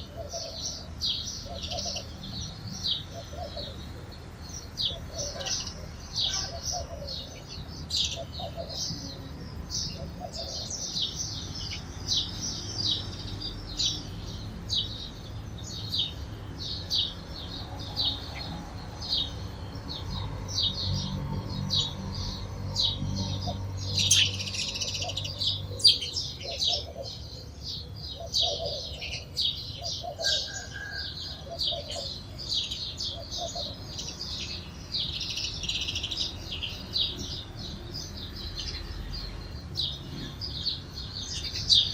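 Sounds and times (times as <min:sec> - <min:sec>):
sparrows chirping: 0:00.0 - 0:41.9.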